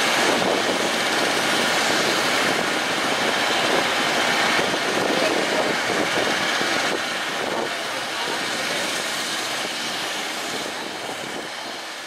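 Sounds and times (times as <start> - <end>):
jet engines rushing rumble: 0.0 - 12.0.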